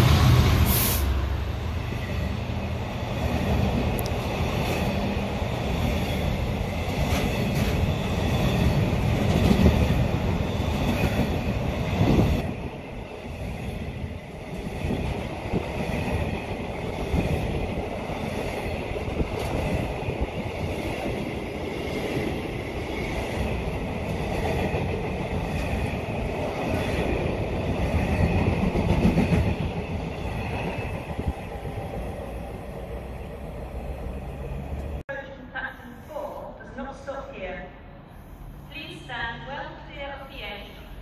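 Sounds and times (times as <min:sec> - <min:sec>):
freight train wheels on rail: 0:00.0 - 0:41.0.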